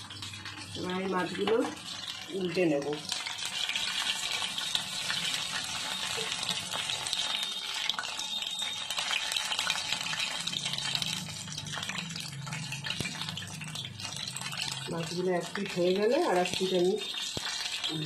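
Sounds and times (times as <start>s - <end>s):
fish deep-frying in oil: 0.0s - 18.0s.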